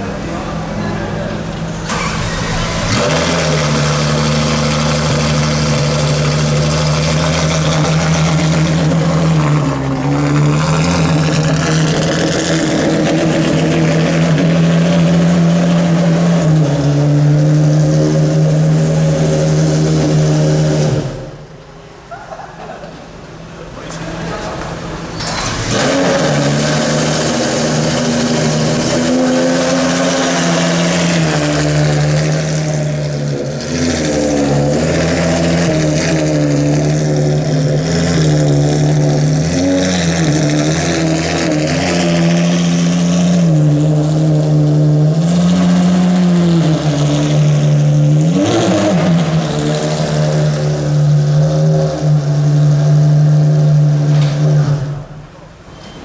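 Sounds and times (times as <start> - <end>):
loud car engine idling fast: 0.0 - 21.5, 23.3 - 54.0.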